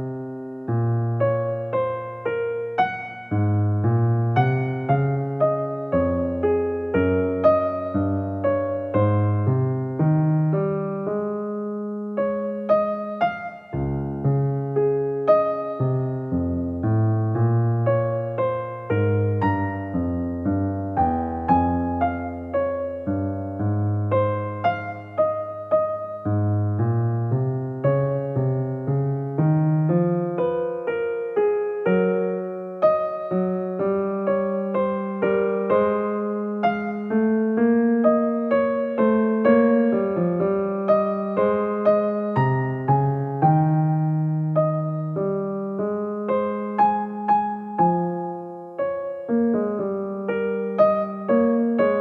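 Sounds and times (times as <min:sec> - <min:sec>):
keyboard melody: 0:00.0 - 0:52.0.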